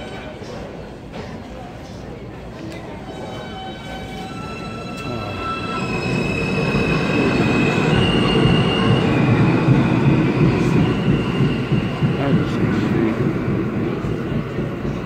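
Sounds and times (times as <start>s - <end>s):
subway train wheels rumbling on rail: 0.0s - 15.0s.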